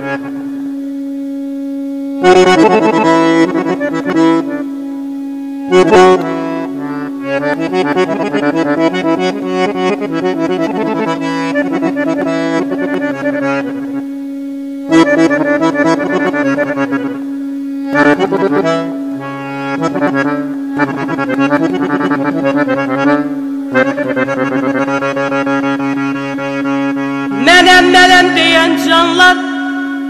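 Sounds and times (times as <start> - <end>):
accordion playing folk music: 0.0 - 30.0.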